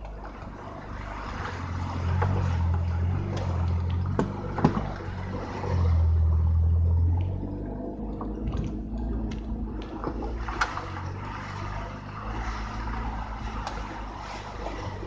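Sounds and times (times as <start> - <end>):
vehicle engine pulling: 0.0 - 15.0
water splashing: 0.0 - 15.0.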